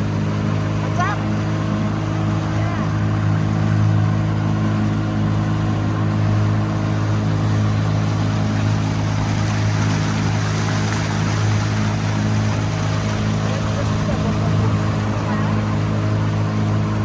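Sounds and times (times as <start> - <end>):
outboard engine running: 0.0 - 17.0
water and wind rushing: 0.0 - 17.0.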